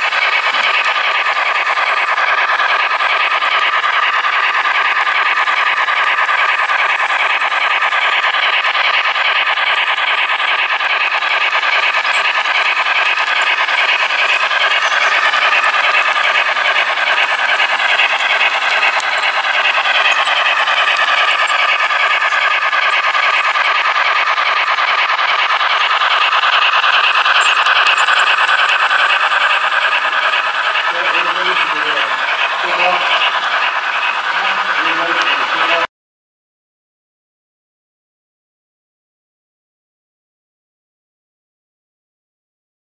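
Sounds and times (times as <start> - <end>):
model train rolling rattle: 0.0 - 35.9.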